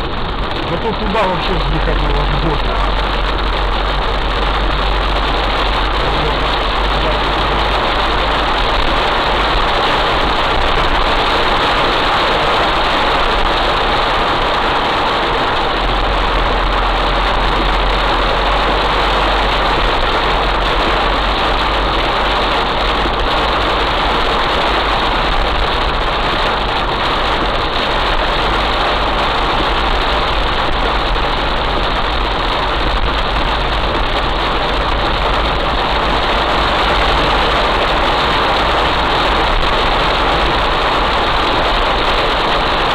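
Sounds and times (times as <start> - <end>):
engine running low rumble: 0.0 - 42.9
heavy rain falling: 0.0 - 42.9.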